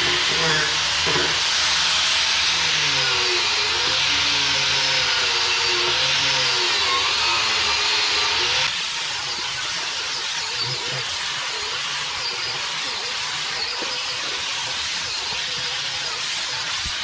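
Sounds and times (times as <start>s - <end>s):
wire wheel grinder whirring: 0.0s - 17.0s.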